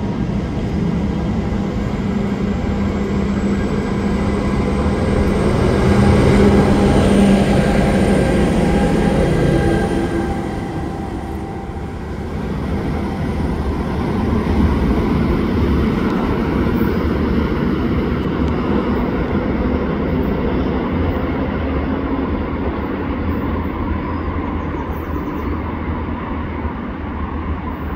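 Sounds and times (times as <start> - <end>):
diesel locomotive rumble: 0.0 - 27.9
train wheel and rail noise: 0.0 - 27.9.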